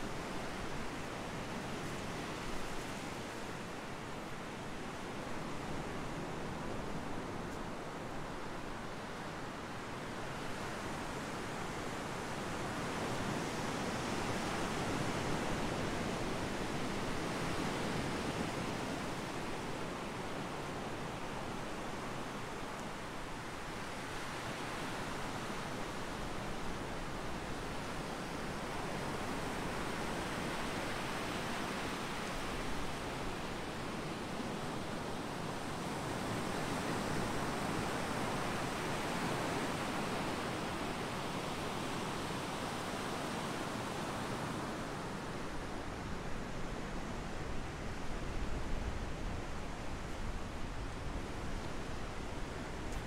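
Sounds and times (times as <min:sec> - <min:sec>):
waves breaking on beach: 0:00.0 - 0:53.0.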